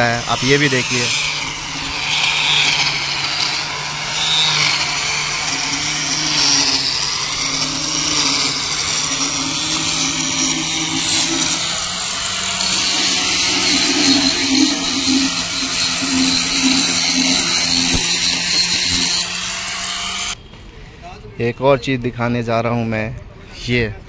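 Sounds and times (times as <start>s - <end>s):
angle grinder cutting stone: 0.0s - 20.4s.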